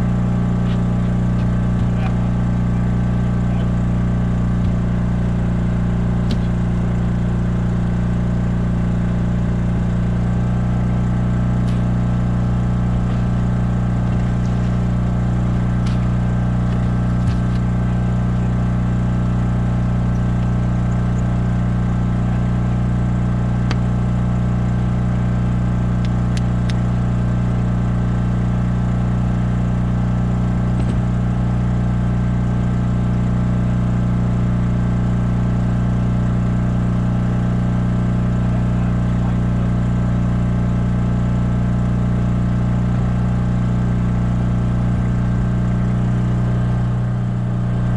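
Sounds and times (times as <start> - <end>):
generator humming: 0.0 - 47.9.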